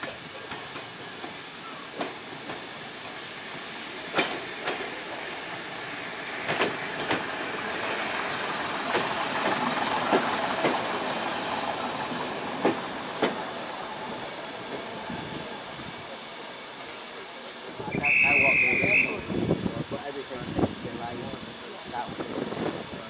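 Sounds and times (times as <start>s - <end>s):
steam train hissing: 0.0s - 23.0s.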